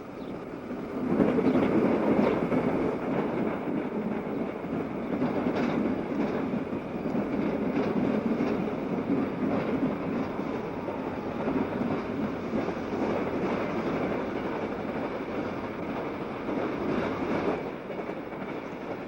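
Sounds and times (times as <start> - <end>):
train rumbling past: 0.0 - 19.0
faint rail clicks: 0.2 - 19.0.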